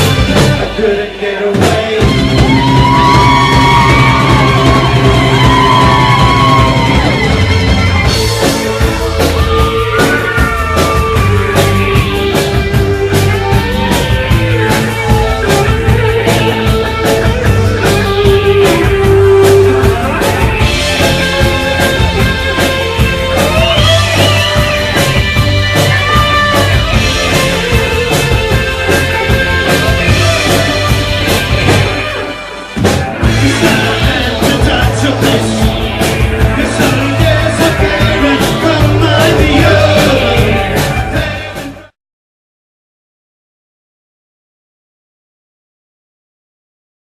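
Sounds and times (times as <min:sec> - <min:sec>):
rock band playing: 0:00.0 - 0:42.0
drum beat: 0:01.5 - 0:41.9.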